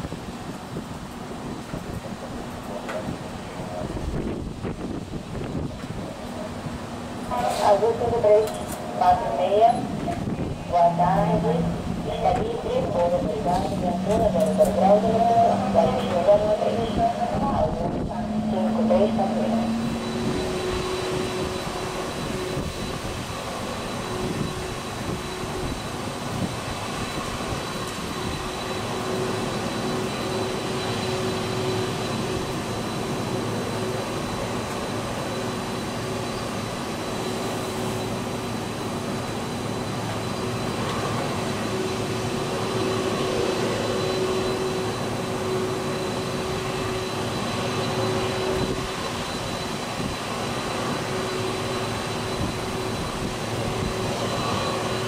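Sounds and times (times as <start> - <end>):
high engine whine: 0.0 - 55.0
jet engines humming: 0.0 - 55.0.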